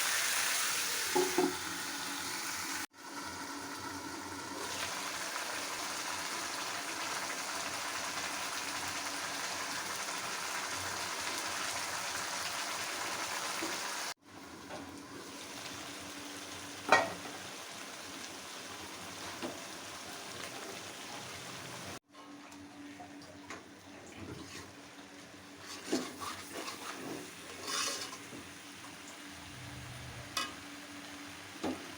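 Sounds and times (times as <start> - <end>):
curry sizzling in a pan: 0.0 - 22.0, 24.4 - 31.9.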